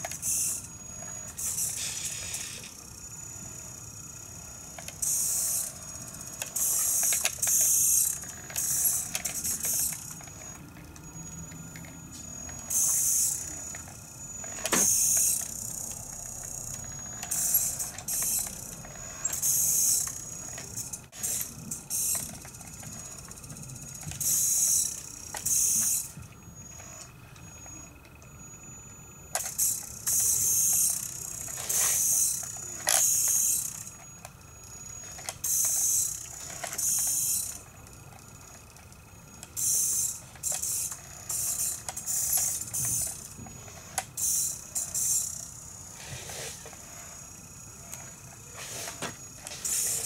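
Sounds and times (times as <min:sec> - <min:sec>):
small electric motor whirring: 0:00.0 - 0:50.0.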